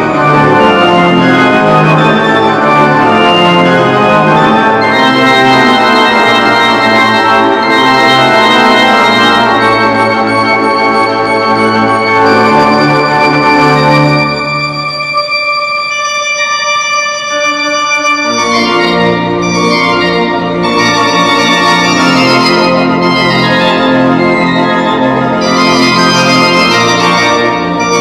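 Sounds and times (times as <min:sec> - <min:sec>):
pipe organ playing chords: 0:00.0 - 0:28.0.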